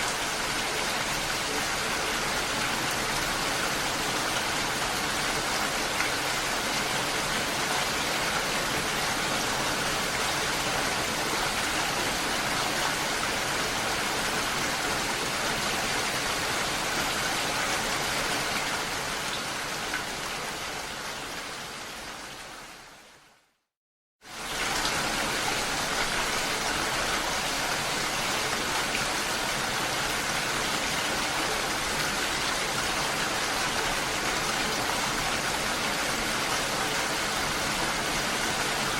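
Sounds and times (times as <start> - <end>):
steady rain falling: 0.0 - 23.6, 24.2 - 38.9.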